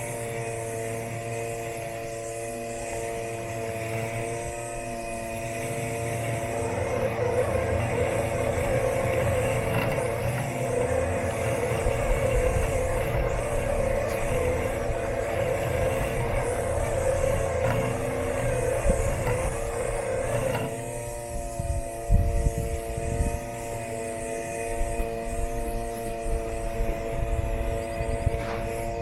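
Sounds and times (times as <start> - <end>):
electric motors humming: 0.0 - 29.0
rushing hiss and rumble: 0.0 - 29.0.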